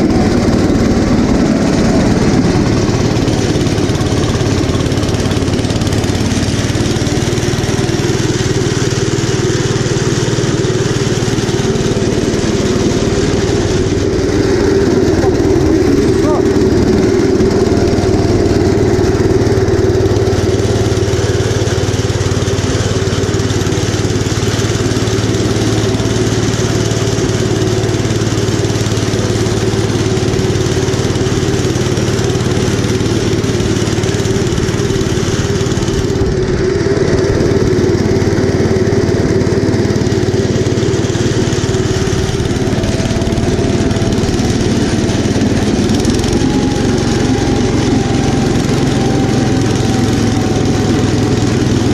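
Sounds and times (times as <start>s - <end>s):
snowblower throwing snow: 0.0s - 51.9s
tractor engine running: 0.0s - 51.9s.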